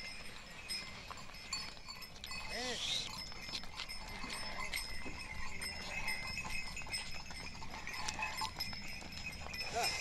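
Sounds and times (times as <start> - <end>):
livestock bells clinking: 0.0 - 10.0.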